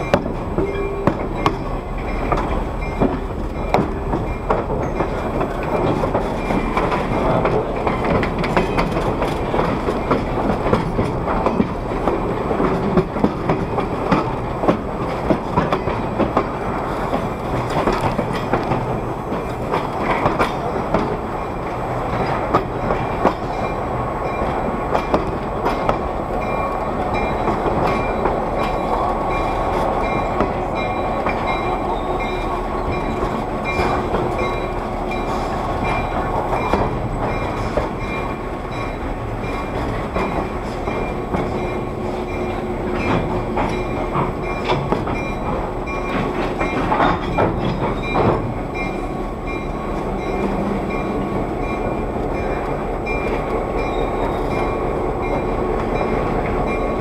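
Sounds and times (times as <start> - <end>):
railcar body rattling: 0.0 - 57.0
train wheels clicking over rail joints: 0.0 - 57.0.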